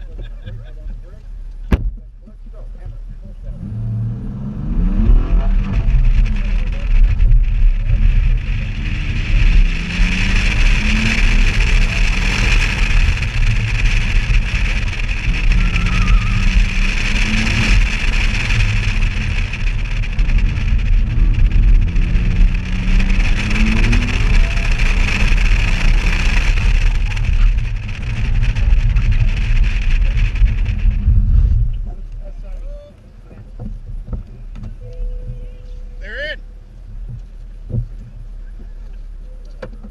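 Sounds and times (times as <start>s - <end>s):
car engine accelerating: 0.0s - 39.9s
wind rumble on microphone: 0.0s - 39.9s.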